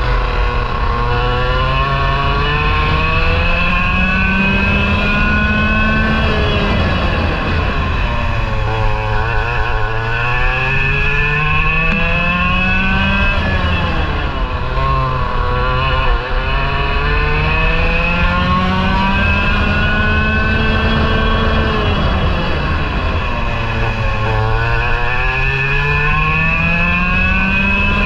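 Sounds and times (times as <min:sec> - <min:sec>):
kart engine revving: 0:00.0 - 0:28.0.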